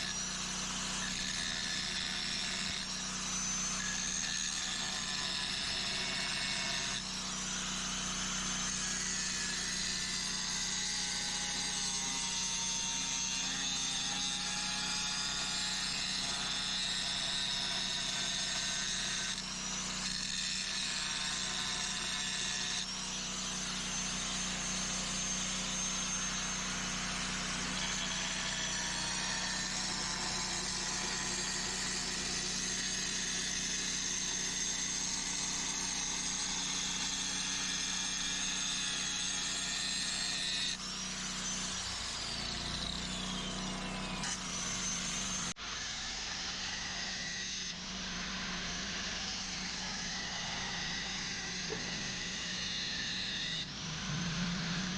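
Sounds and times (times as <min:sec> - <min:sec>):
angle grinder on steel: 0:00.0 - 0:54.9.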